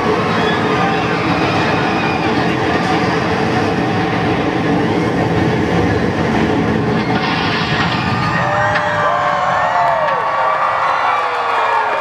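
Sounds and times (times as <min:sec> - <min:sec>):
roller coaster rumbling on track: 0:00.0 - 0:12.0.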